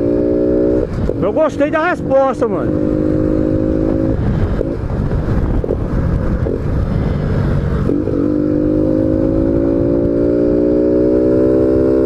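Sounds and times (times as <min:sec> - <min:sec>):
motorcycle engine: 0:00.0 - 0:12.0
road rumble: 0:00.0 - 0:12.0
wind: 0:00.0 - 0:12.0.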